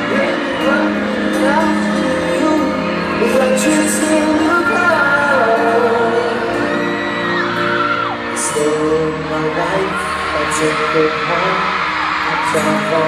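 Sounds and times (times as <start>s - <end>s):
fans screaming and whooping: 0.0s - 13.0s
live pop band playing: 0.0s - 13.0s.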